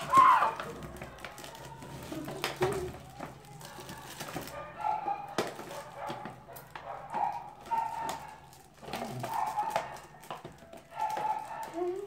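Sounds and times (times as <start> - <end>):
foil gift wrap crinkling and tearing: 0.0 - 12.0.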